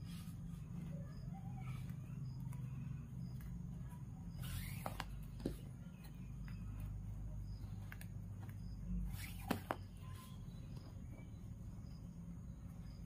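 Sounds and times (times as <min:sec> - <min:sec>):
cord rustling: 0:00.0 - 0:11.5.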